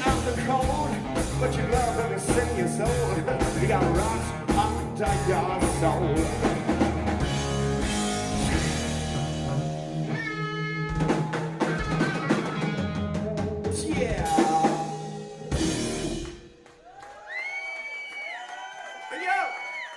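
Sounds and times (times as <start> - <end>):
live rock band playing: 0.0 - 16.6.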